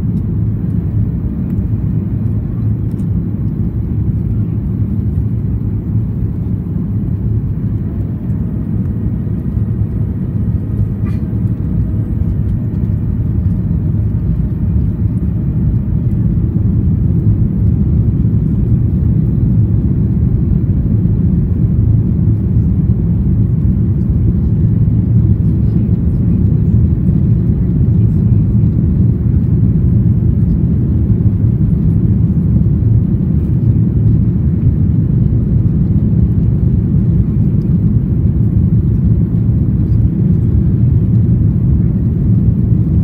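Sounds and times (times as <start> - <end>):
airplane cabin roar: 0.0 - 43.0.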